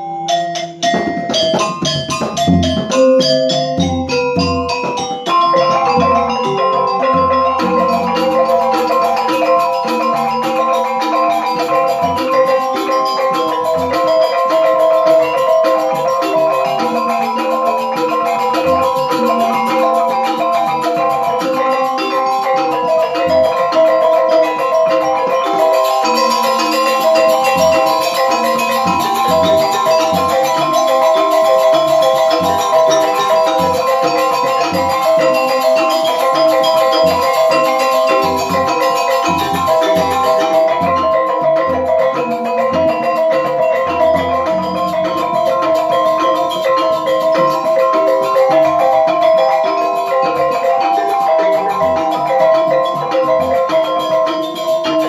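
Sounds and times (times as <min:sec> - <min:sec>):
hand drum strokes: 0:00.0 - 0:55.0
metallophones ringing: 0:00.0 - 0:55.0.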